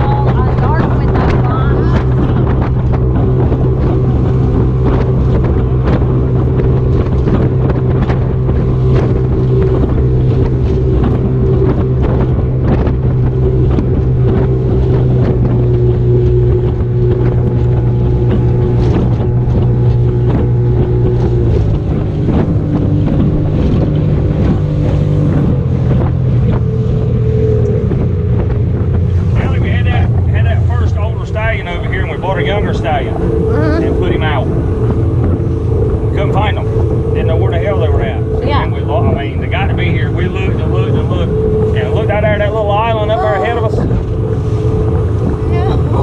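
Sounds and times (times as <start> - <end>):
motorboat engine running: 0.0 - 46.0
wind buffeting microphone: 0.0 - 46.0.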